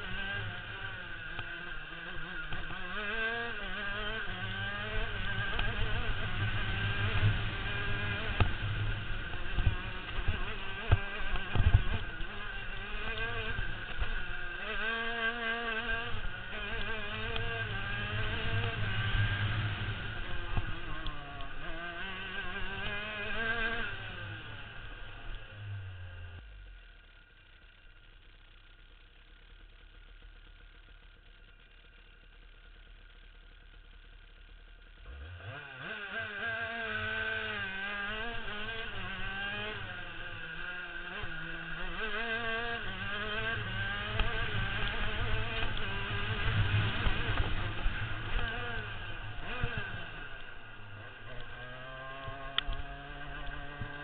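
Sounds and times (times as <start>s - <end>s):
kart engine revving: 0.0s - 26.8s, 34.2s - 54.0s.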